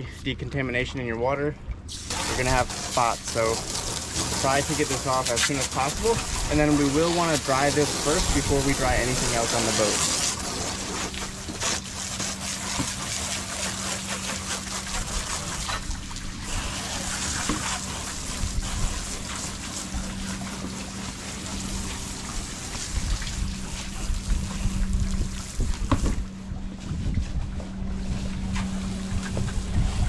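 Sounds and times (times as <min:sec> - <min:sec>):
steady low hum: 0:00.0 - 0:30.0
water trickling and splashing: 0:01.2 - 0:30.0.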